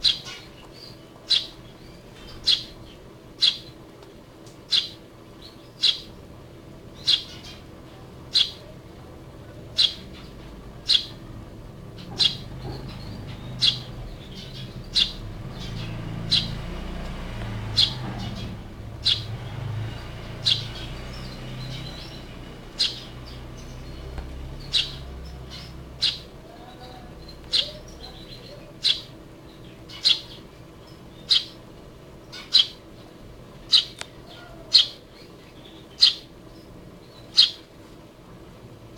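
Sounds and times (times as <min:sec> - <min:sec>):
sparrow chirping: 0:00.0 - 0:37.7.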